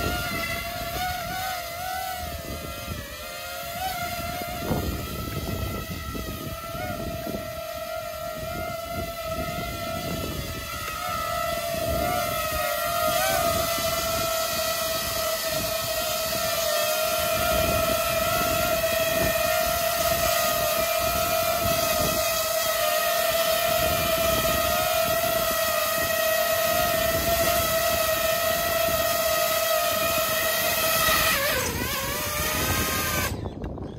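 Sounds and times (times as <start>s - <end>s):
rushing prop wash: 0.0s - 33.5s
drone propellers whining: 0.0s - 33.9s.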